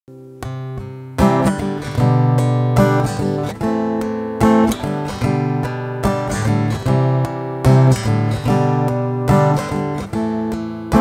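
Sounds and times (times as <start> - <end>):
acoustic guitar playing: 0.1 - 11.0.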